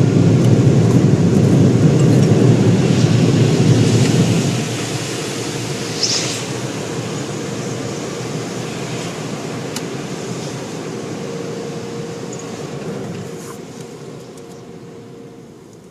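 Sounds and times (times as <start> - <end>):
car wash machinery rushing: 0.0 - 15.6.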